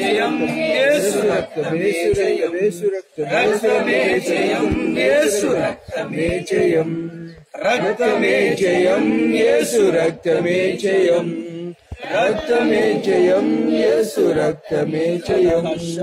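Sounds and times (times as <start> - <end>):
group singing a worship chant: 0.0 - 16.0.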